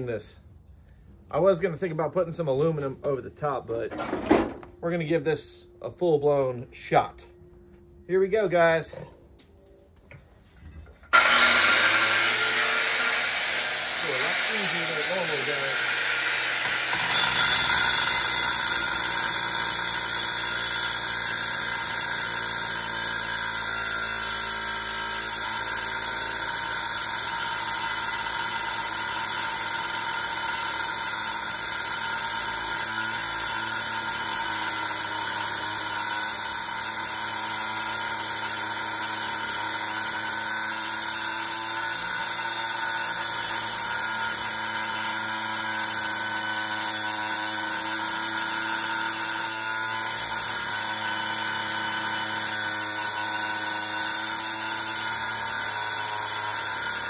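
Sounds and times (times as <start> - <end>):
angle grinder grinding metal: 11.0 - 57.0.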